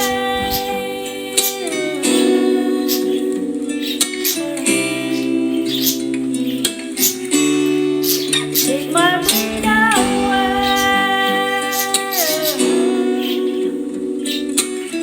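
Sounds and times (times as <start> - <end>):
acoustic guitar: 0.0 - 15.0
woman singing: 0.0 - 15.0.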